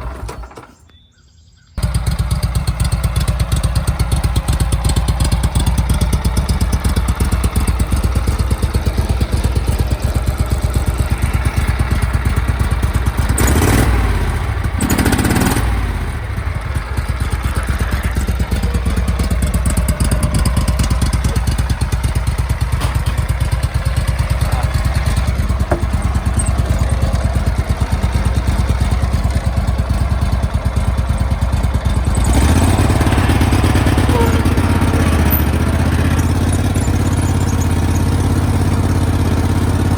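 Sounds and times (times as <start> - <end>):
garden tractor engine running: 0.0 - 1.0, 1.8 - 39.9.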